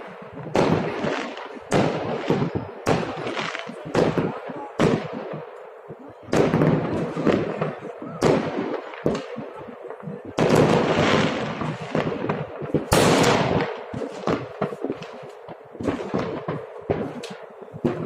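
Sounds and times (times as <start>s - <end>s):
fireworks booming: 0.0s - 18.0s
small fireworks pops: 0.0s - 18.0s.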